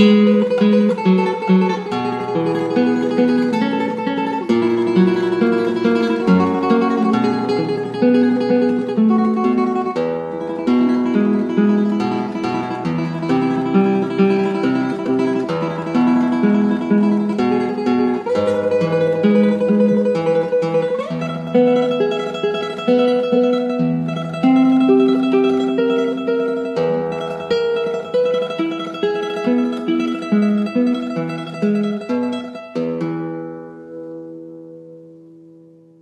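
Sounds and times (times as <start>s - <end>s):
acoustic guitar playing: 0.0s - 36.0s.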